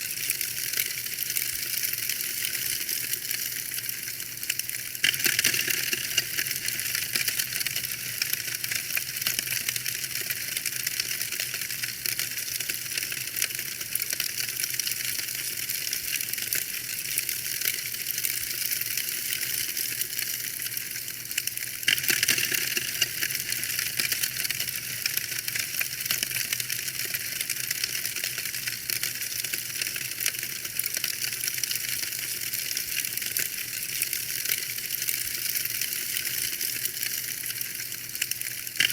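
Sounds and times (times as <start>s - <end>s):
soft fire hiss: 0.0s - 38.9s
wood fire crackling and popping: 0.0s - 38.9s.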